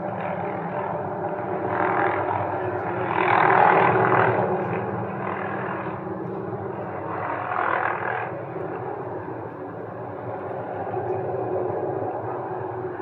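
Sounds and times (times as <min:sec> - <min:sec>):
helicopter hovering: 0:00.0 - 0:13.0.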